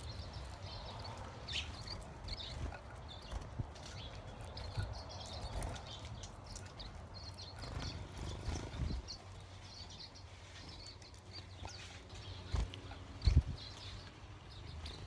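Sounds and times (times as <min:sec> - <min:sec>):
birds giving high chirps: 0:00.0 - 0:15.0.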